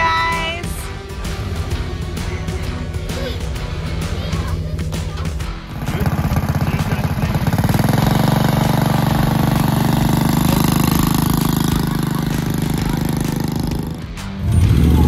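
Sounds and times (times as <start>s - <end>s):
vehicle engine pulsing: 0.0s - 15.0s.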